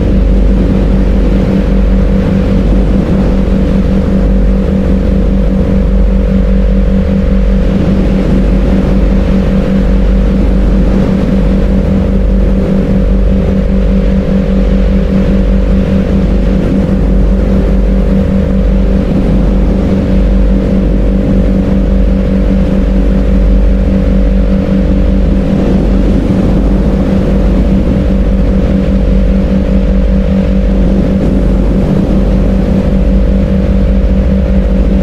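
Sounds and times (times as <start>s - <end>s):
steady low droning hum: 0.0s - 35.0s.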